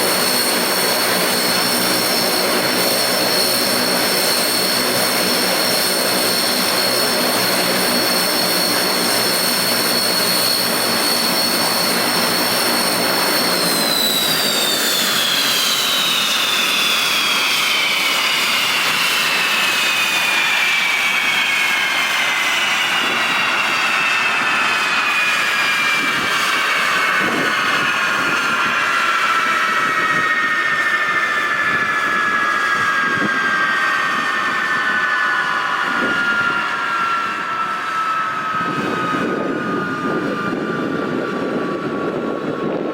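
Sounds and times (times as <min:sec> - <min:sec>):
low propeller hum: 0:00.0 - 0:42.9
turboprop engines whining: 0:00.0 - 0:42.9.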